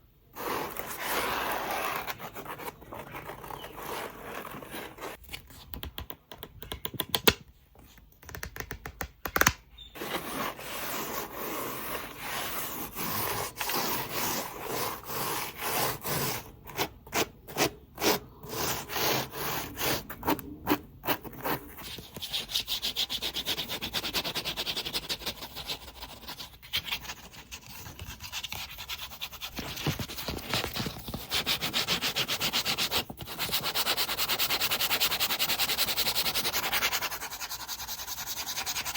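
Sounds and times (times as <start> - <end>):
scratching and rubbing strokes: 0.3 - 5.5, 10.0 - 38.9.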